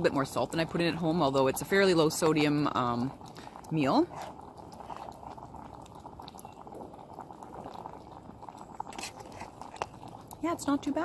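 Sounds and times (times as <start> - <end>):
food bubbling in a pot: 0.0 - 11.0.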